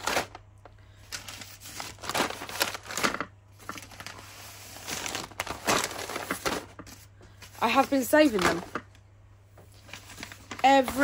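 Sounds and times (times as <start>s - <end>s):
paper mailers crinkling: 0.0s - 8.9s, 9.7s - 11.0s.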